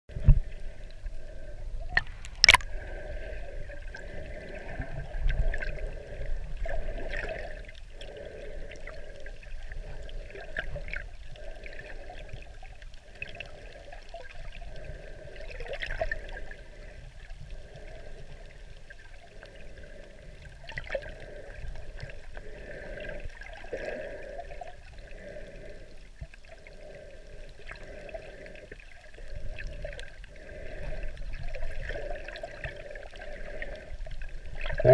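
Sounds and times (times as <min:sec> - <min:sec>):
underwater water sloshing: 0:00.1 - 0:34.9.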